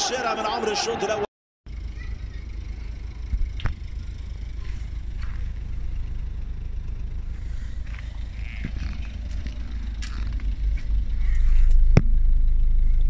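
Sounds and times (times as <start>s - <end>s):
car engine idling: 1.7s - 13.0s.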